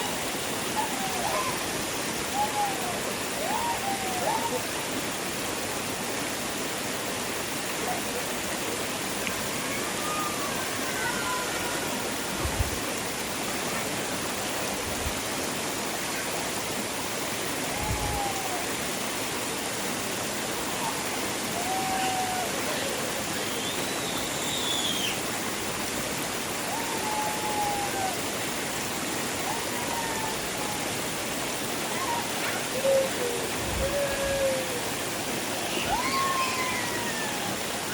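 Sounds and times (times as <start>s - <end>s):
stream rushing: 0.0s - 37.9s.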